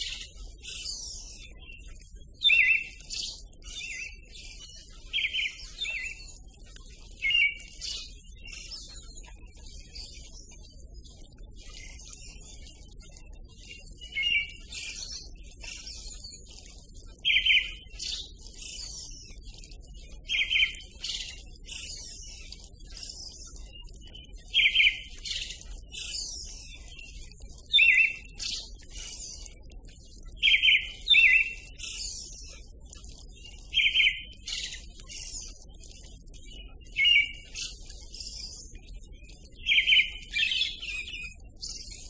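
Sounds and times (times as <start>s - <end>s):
birds chirping high: 0.0s - 42.0s.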